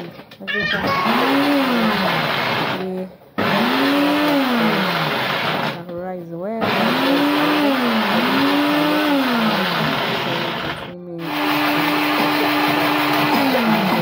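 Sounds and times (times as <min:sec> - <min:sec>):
countertop blender running: 0:00.0 - 0:05.9, 0:06.6 - 0:14.0.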